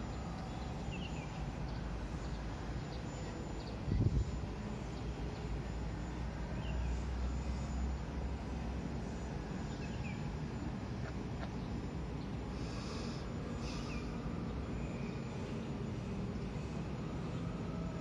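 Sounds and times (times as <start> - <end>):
faint bird chirps: 0.0 - 8.1, 9.2 - 15.7
distant city traffic rumble: 0.0 - 18.0.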